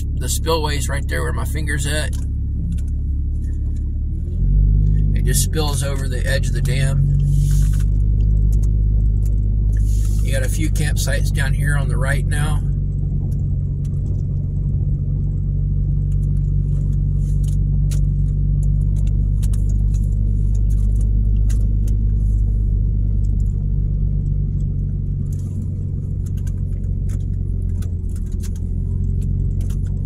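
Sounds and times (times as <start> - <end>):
road noise: 0.0 - 30.0
vehicle engine drone: 0.0 - 30.0
small clicks and rattles: 2.0 - 30.0.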